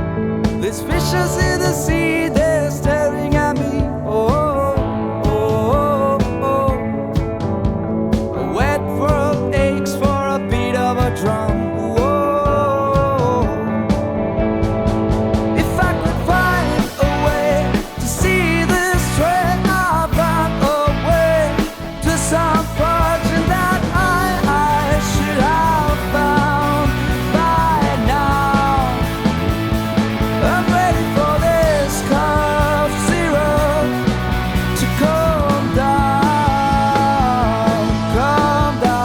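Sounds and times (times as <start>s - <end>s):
bass guitar: 0.0s - 39.0s
drums: 0.0s - 39.0s.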